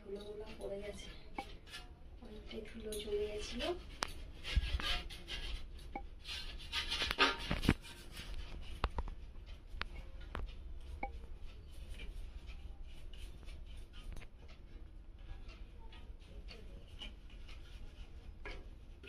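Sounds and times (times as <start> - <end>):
hand rubbing metal fan blade: 0.0 - 14.8, 15.4 - 19.0.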